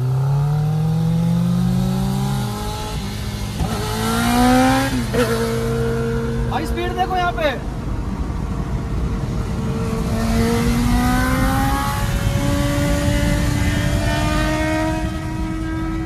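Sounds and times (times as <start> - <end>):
car engine accelerating: 0.0 - 16.0
wind and road noise: 0.0 - 16.0.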